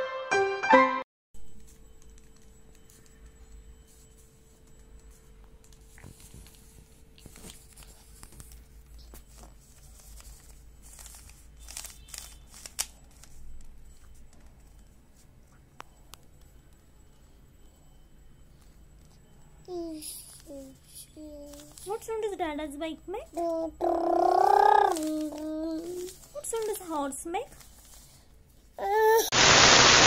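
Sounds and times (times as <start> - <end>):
faint steady hum: 1.4 - 30.0.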